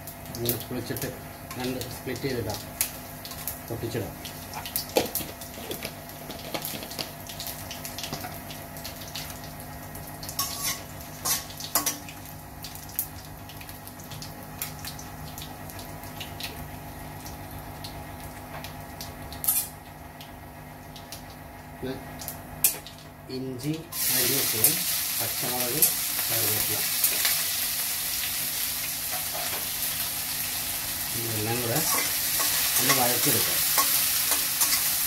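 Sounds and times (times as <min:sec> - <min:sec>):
oil sizzling in a pan: 0:00.0 - 0:19.8, 0:23.9 - 0:35.0.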